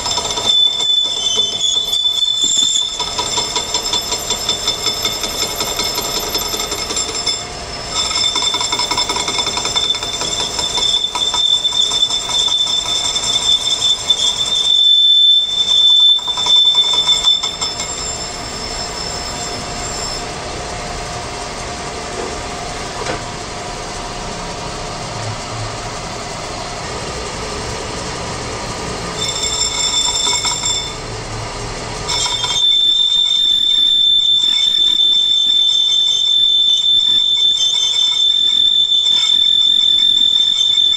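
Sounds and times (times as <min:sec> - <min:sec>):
lathe cutting tool whine: 0:00.0 - 0:40.9
lathe running noise: 0:00.0 - 0:40.9.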